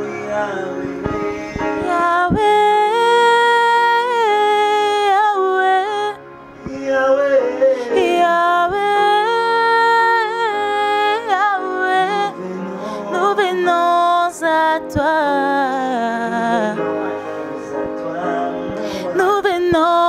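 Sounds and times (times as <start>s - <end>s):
woman singing slow melody: 0.0s - 6.8s, 7.8s - 16.9s, 18.8s - 20.0s
electronic keyboard accompaniment: 0.0s - 20.0s.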